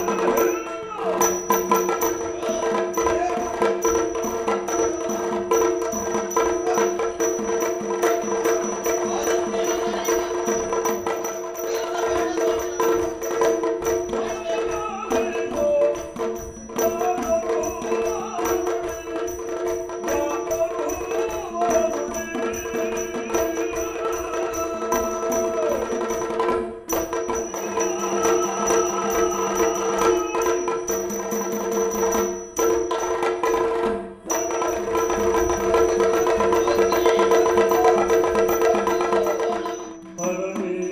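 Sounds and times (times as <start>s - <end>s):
hand drum: 0.0s - 40.9s
small cymbals: 0.0s - 40.9s.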